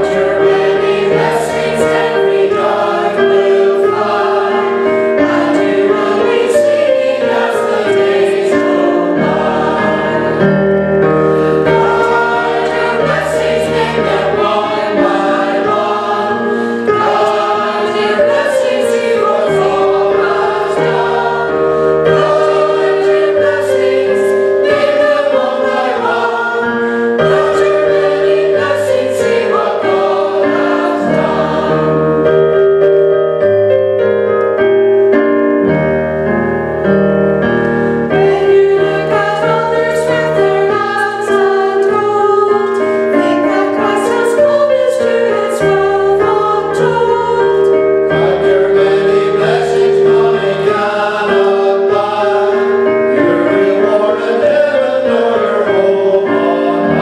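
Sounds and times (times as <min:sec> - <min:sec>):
choir singing a hymn: 0:00.0 - 0:33.2, 0:37.4 - 0:57.0.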